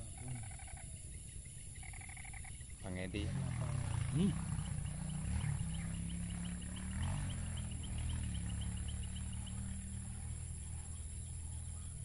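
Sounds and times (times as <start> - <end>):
insects buzzing: 0.0 - 12.0
low humming drone: 0.0 - 12.0
rapid chirping trill: 0.0 - 12.0.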